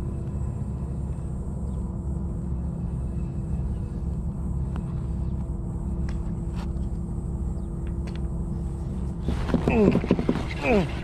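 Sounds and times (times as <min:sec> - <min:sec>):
faint steady hum: 0:00.0 - 0:11.0
steady low rumble: 0:00.0 - 0:11.0.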